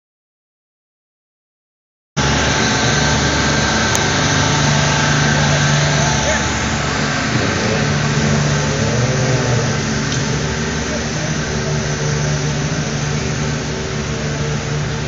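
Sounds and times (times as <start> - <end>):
lawn tractor engine droning: 2.2 - 15.0.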